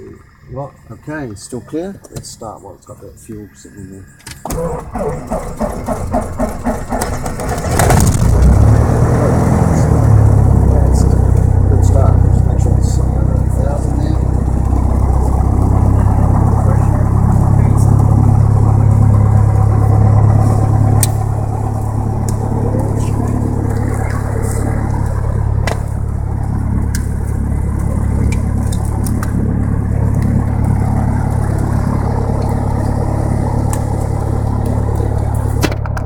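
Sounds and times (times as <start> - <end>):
aircraft piston engine drone: 0.0 - 36.0.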